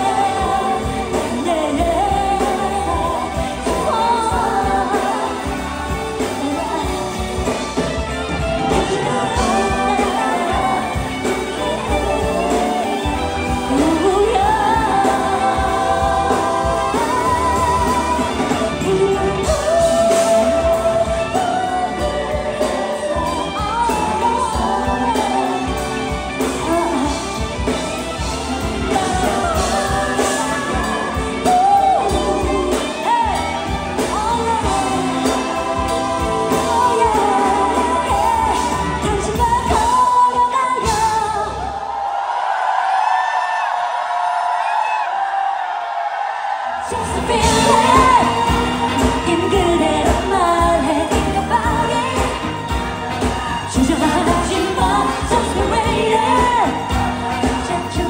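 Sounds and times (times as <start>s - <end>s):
woman singing into microphone: 0.0s - 7.7s, 8.7s - 27.8s, 28.7s - 41.8s, 46.8s - 58.0s
backing music with beat: 0.0s - 40.2s, 47.0s - 58.0s.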